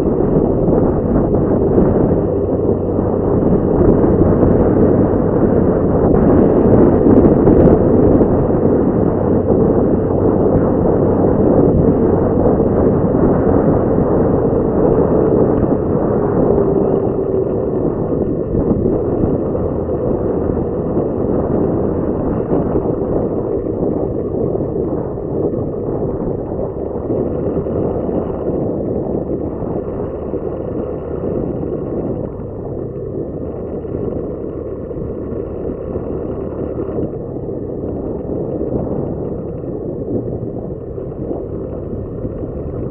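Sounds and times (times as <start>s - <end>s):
motorcycle engine running: 0.0s - 42.9s
wind on microphone: 0.0s - 42.9s.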